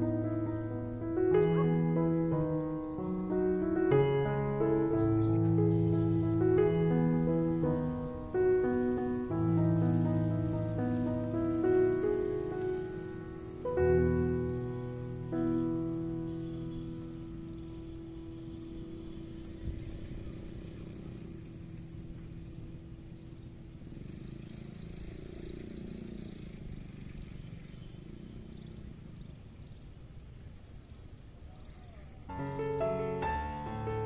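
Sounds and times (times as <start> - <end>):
thin steady high tone: 0.0 - 34.0.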